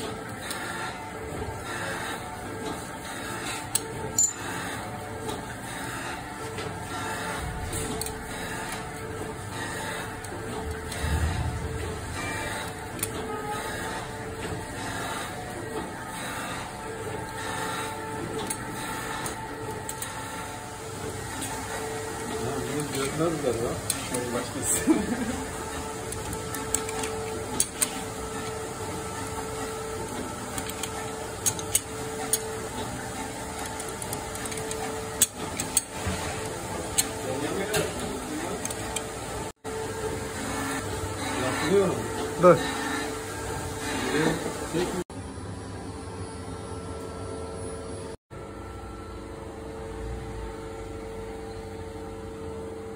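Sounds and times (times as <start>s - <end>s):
machine humming: 0.0s - 52.9s.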